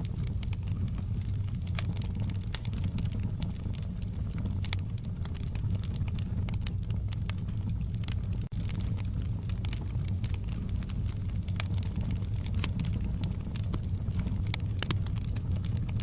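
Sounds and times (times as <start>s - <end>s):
low rumble of fire: 0.0s - 16.0s
wood fire crackling: 0.0s - 16.0s.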